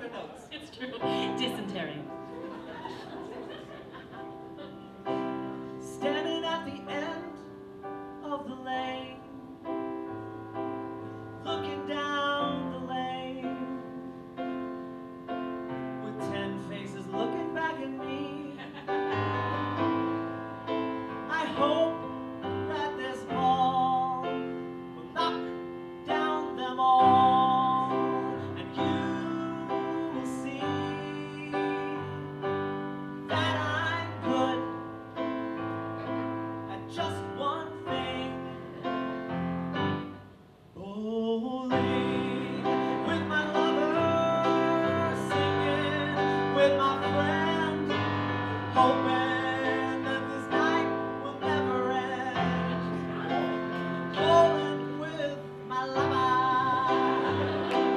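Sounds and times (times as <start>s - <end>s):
piano accompaniment: 0.0s - 40.8s, 41.4s - 57.9s.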